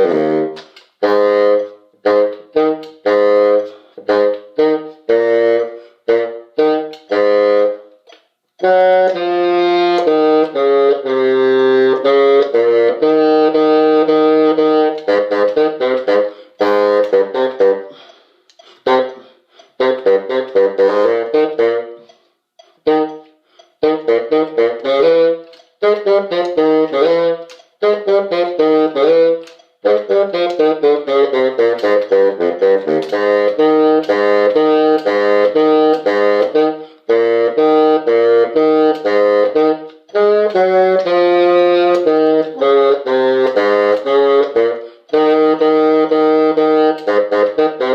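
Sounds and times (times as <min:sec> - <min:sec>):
saxophone-like tune: 0:00.0 - 0:47.9.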